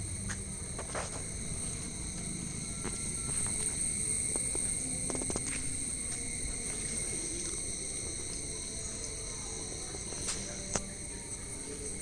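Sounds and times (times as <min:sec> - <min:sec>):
crickets chirping shrilly: 0:00.0 - 0:12.0.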